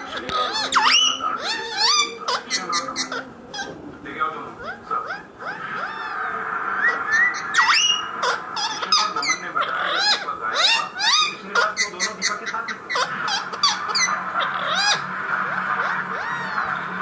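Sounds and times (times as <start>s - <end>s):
parrot chirping and whistling: 0.0s - 3.7s, 4.6s - 17.0s.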